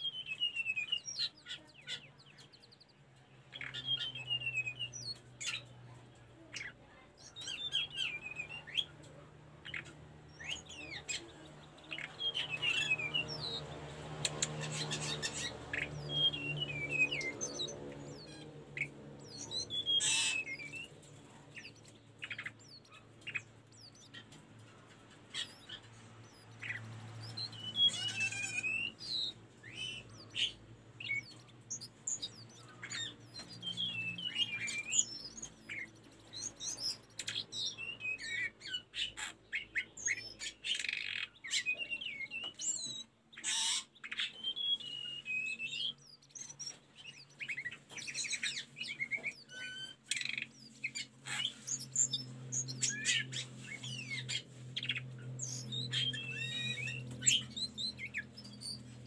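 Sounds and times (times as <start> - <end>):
bird singing whistled phrases: 0.0 - 2.0, 3.5 - 5.6, 7.3 - 8.9, 9.7 - 13.6, 14.3 - 20.9, 26.6 - 38.8, 39.6 - 58.8.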